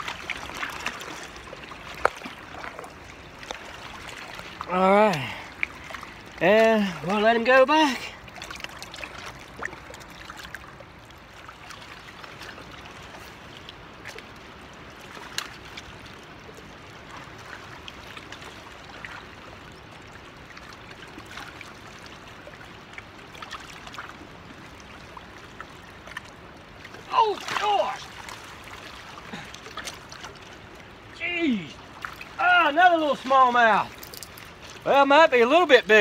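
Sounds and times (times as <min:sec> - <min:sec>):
river water rushing: 0:00.0 - 0:36.0.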